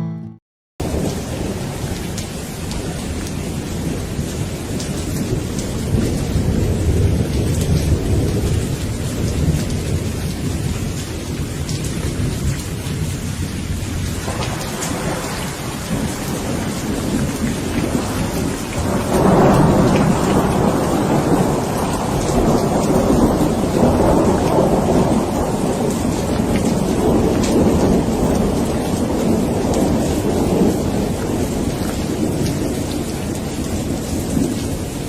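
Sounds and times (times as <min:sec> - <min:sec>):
steady rain: 0:00.8 - 0:35.0
thunder rumbling: 0:00.8 - 0:35.0.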